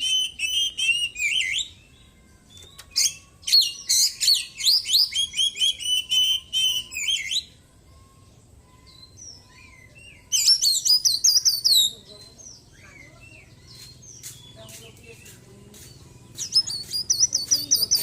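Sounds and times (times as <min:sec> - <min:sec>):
bird singing whistles and chirps: 0:00.0 - 0:18.0.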